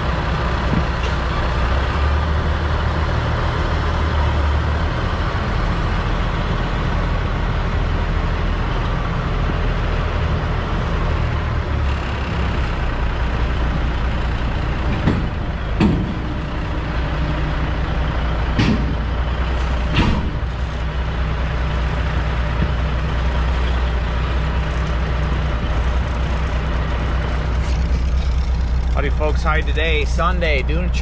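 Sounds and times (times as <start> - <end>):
diesel truck engine idling: 0.0 - 31.0.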